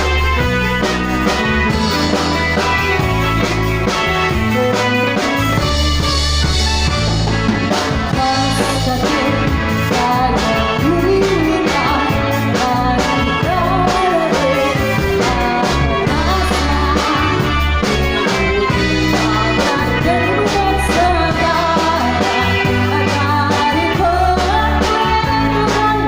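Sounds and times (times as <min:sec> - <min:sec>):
person singing: 0:00.0 - 0:06.9, 0:07.7 - 0:26.0
live rock band playing: 0:00.0 - 0:26.0.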